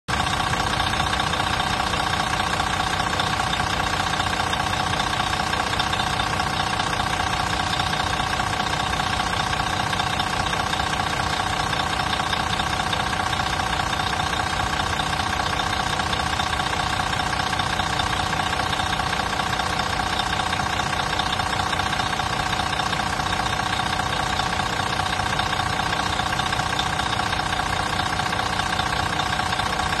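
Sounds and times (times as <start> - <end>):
diesel engine idling: 0.1 - 30.0.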